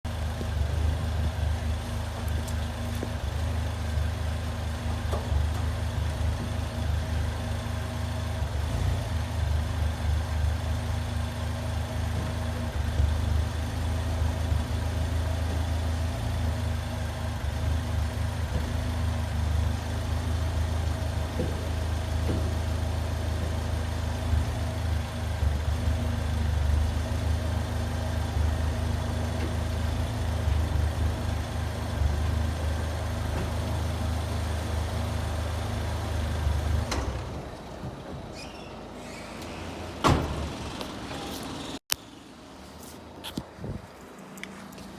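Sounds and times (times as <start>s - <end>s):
car engine idling: 0.0s - 43.4s.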